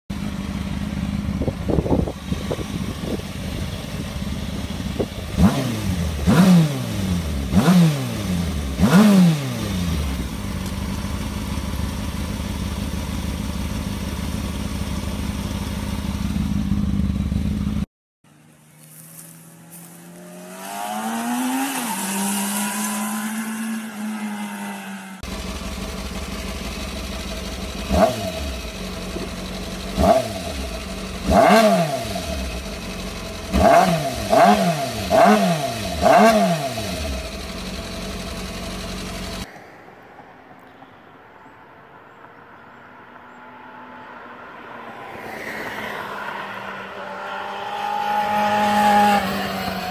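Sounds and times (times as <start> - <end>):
motorcycle engine revving and idling: 0.1 - 39.5, 46.4 - 49.9
motorcycle riding off: 0.1 - 39.5, 44.7 - 49.9.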